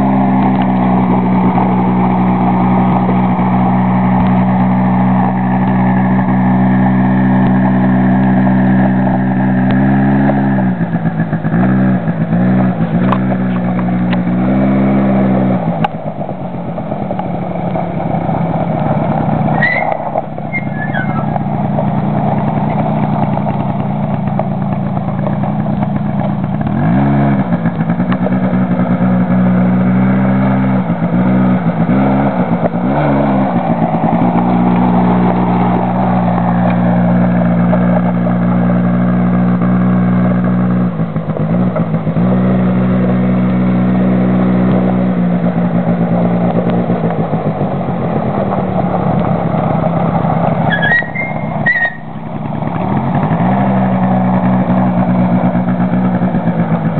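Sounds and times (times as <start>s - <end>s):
quad bike engine revving: 0.0s - 56.9s.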